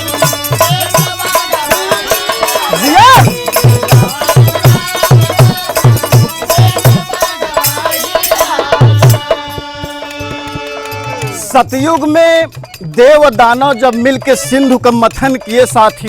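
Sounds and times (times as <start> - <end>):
hand drum beating: 0.0 - 16.0.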